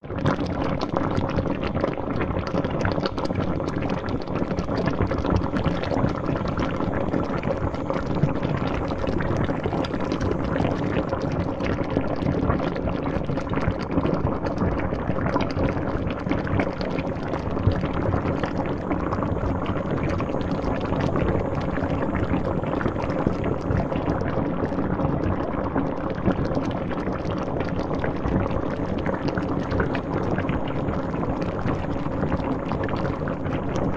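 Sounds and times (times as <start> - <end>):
water boiling and bubbling: 0.0 - 33.9.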